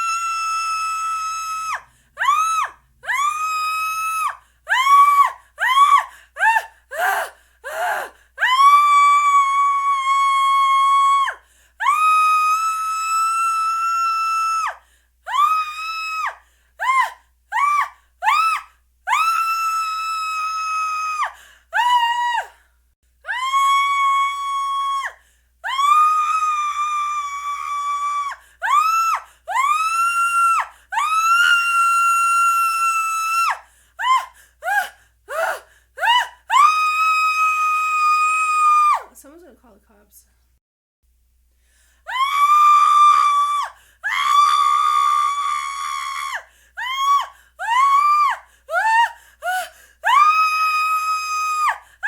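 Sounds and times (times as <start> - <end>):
woman screaming: 0.0 - 22.5, 23.3 - 39.1, 42.1 - 49.1, 50.1 - 51.8.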